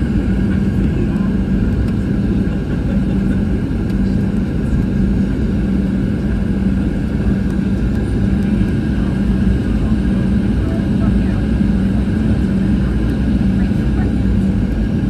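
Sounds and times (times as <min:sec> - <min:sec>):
airliner cabin engine drone: 0:00.0 - 0:15.0
constant low hum: 0:00.0 - 0:15.0.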